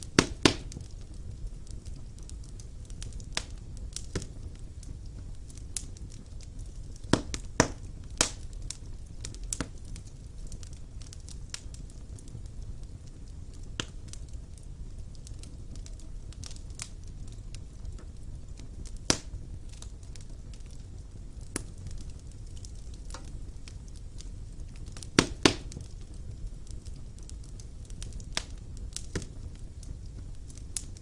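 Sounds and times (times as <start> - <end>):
fire crackling in a fireplace: 0.0 - 31.0.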